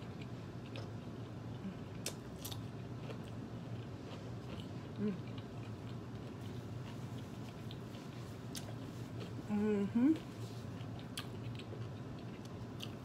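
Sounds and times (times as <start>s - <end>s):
person chewing food: 0.0s - 9.5s, 10.1s - 13.0s.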